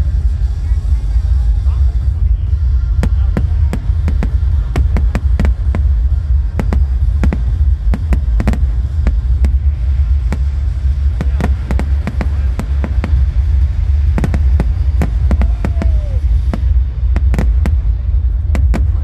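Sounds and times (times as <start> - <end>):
deep rumble: 0.0 - 19.0
fireworks bangs: 1.9 - 19.0.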